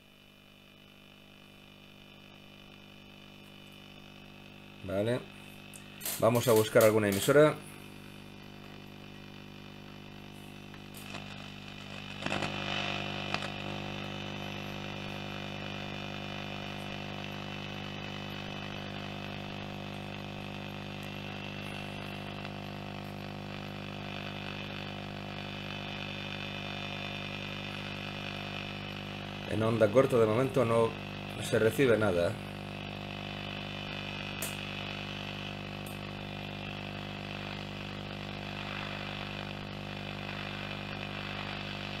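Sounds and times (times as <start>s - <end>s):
low mains hum from radio: 0.0s - 42.0s
shortwave static and hiss: 0.0s - 42.0s
radio crackles: 0.3s - 42.0s.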